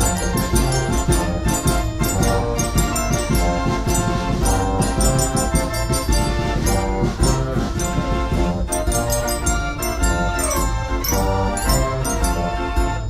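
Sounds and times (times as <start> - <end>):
instrumental music with steady beat: 0.0 - 13.0.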